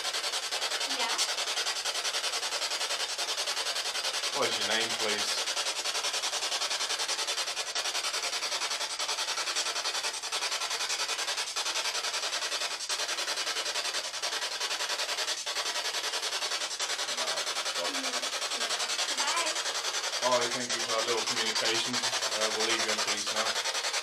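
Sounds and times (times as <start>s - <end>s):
pulsing radio static hiss: 0.0s - 24.0s.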